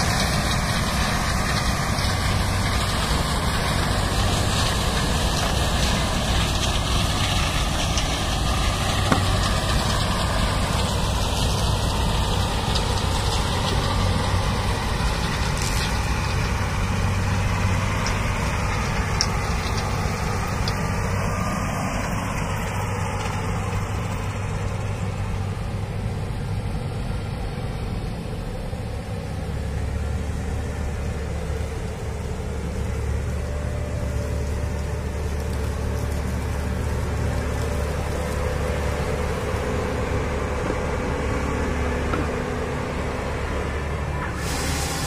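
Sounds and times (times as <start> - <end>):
combine harvester engine humming: 0.0 - 45.0.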